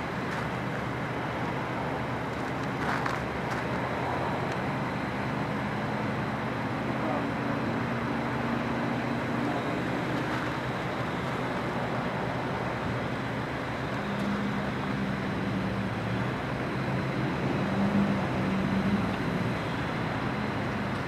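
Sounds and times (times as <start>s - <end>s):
road traffic hiss: 0.0s - 21.0s
vehicle engine hum: 0.0s - 21.0s.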